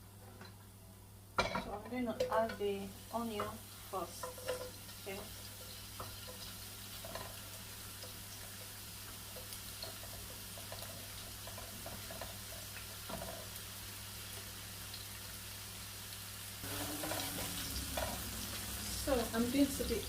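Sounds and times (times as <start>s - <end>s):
onion sizzling in oil: 1.3s - 20.0s.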